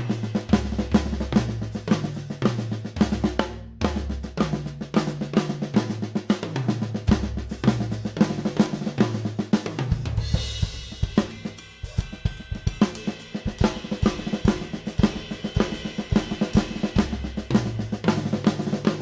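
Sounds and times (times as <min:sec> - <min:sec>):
bass drum: 0:00.0 - 0:19.0
fast snare and tom strokes: 0:00.0 - 0:19.0.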